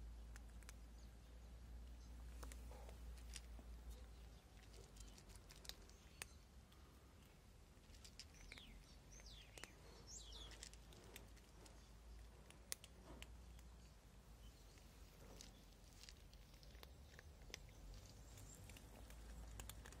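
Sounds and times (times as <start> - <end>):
cats chewing dry kibble: 0.0 - 20.0
bird chirping: 0.2 - 20.0.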